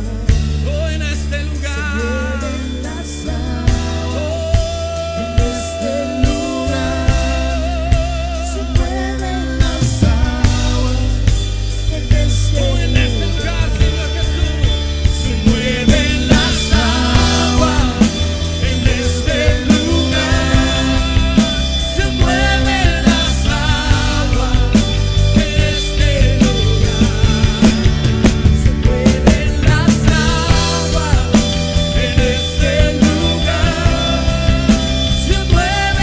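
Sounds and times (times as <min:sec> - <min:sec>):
drum kit steady beat: 0:00.0 - 0:36.0
rock band playing: 0:00.0 - 0:36.0.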